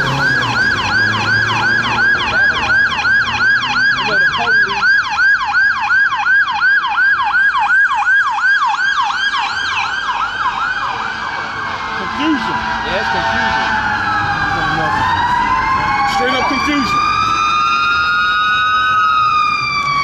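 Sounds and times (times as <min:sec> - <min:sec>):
siren yelping: 0:00.0 - 0:20.0.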